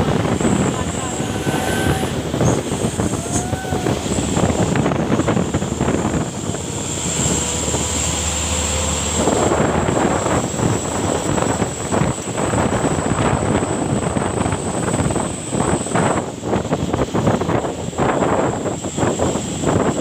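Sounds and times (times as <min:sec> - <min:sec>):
low drone: 0:00.0 - 0:17.4
road and engine rumble: 0:00.0 - 0:20.0
wind buffeting microphone: 0:00.0 - 0:20.0.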